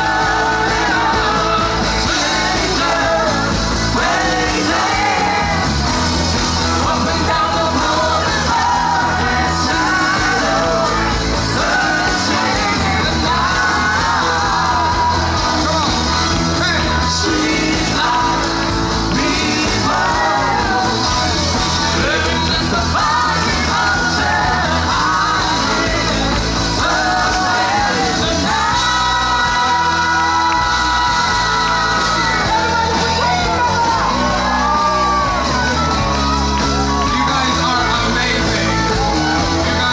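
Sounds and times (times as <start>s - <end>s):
rock song with singer and band: 0.0s - 39.9s.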